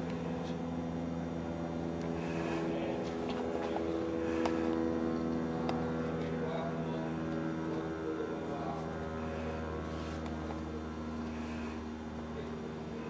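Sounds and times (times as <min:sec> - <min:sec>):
roller shutter motor humming: 0:00.0 - 0:13.0.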